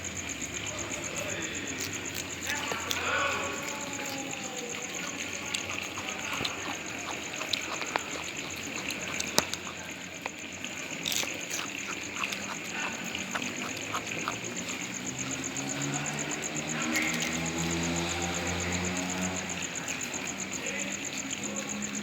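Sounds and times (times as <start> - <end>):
frogs croaking: 0.0 - 22.0
small ticks: 0.0 - 22.0.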